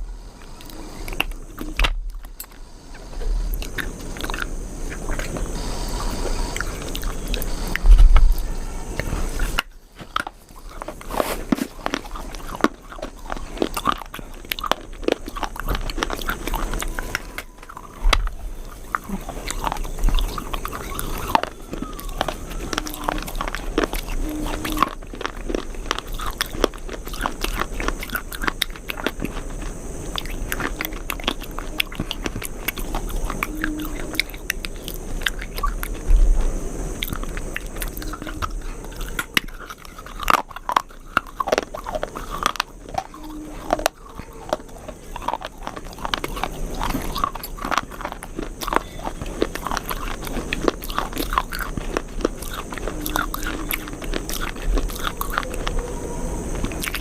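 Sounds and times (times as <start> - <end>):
crunchy chewing: 0.0 - 57.0.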